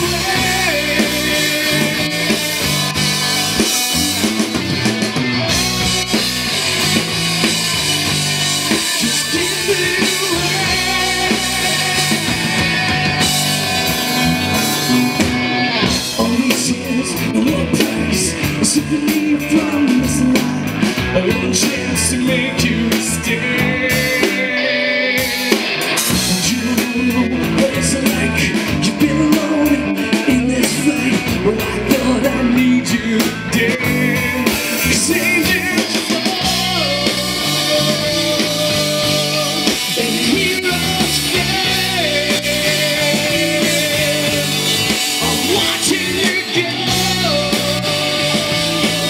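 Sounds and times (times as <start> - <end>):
man singing: 0.0 - 4.6, 5.4 - 49.0
distorted electric guitars: 0.0 - 49.0
drum kit: 0.0 - 49.0.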